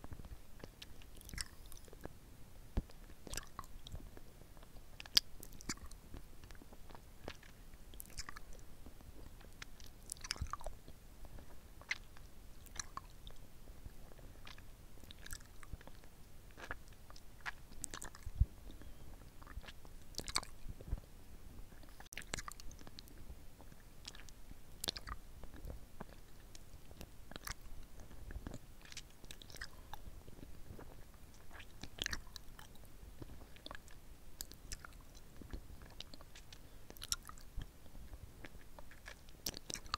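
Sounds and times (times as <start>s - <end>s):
lollipop licking and sucking: 0.6s - 2.1s, 2.8s - 8.6s, 11.8s - 13.4s, 14.0s - 18.4s, 19.2s - 20.9s, 21.8s - 37.7s, 38.4s - 39.9s.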